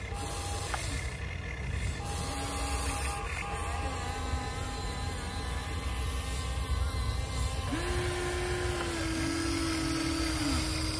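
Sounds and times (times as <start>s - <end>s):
small electric motors whining: 0.0s - 10.9s
steady low hum: 0.0s - 10.9s.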